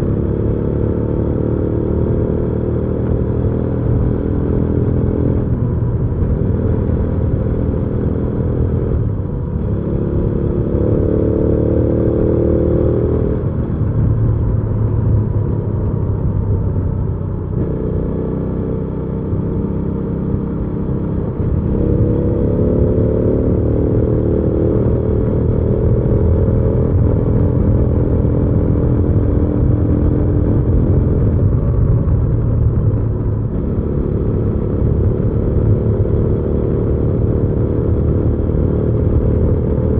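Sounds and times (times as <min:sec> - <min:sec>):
motorcycle engine revving: 0:00.0 - 0:16.8, 0:17.4 - 0:39.9.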